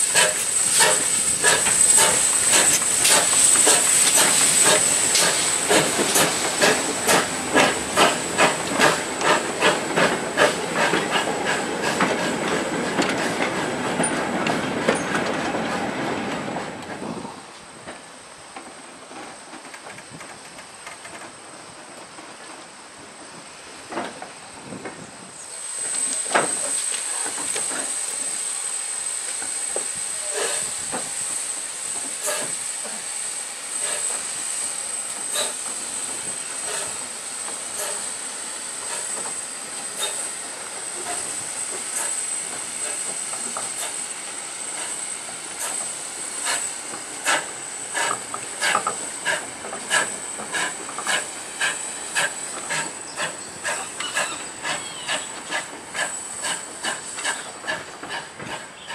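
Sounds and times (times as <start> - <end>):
steam locomotive hissing: 0.0 - 58.9.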